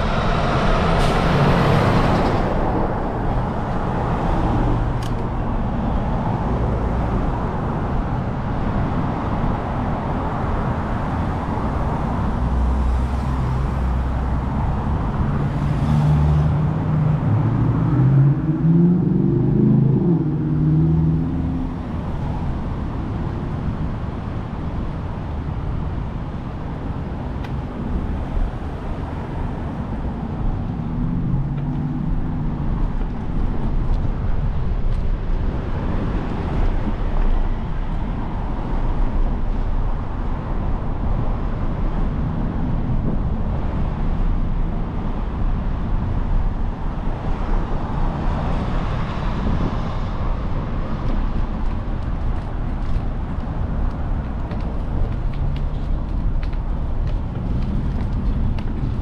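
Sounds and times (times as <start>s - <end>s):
rushing wind and road noise: 0.0s - 59.0s
vehicle engine hum: 0.0s - 59.0s.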